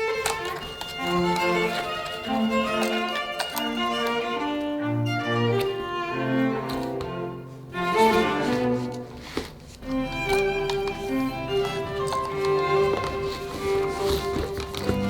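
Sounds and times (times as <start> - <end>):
bowed strings music: 0.0 - 15.0.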